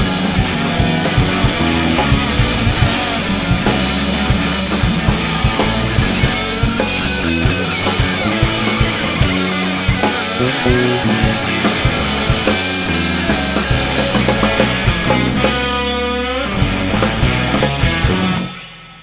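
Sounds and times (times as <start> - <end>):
drum kit: 0.0 - 19.0
electric bass: 0.0 - 19.0
electric guitars: 0.0 - 19.0.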